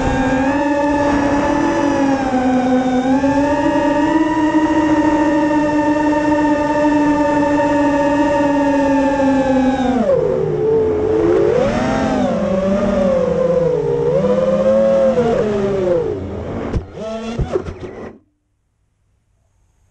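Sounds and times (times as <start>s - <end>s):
quadcopter motors whining: 0.0s - 18.2s.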